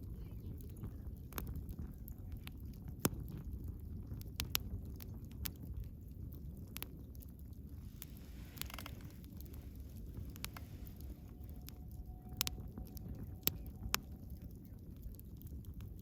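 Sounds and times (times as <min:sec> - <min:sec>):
fire crackles and pops: 0:00.0 - 0:16.0
wood fire rumbling: 0:00.0 - 0:16.0.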